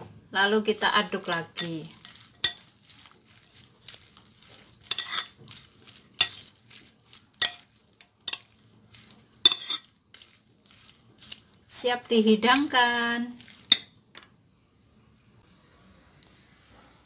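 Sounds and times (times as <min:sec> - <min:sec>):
wet rustle of salad stirring: 0:00.5 - 0:14.4.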